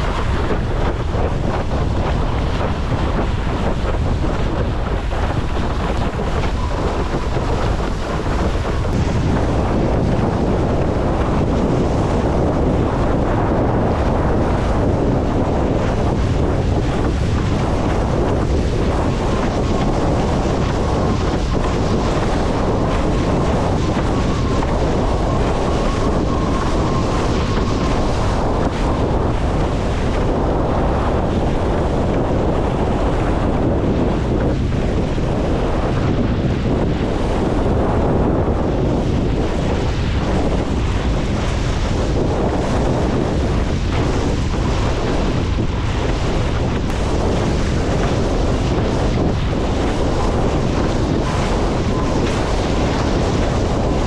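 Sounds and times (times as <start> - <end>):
water rushing and splashing: 0.0 - 54.0
wind buffeting microphone: 0.0 - 54.0.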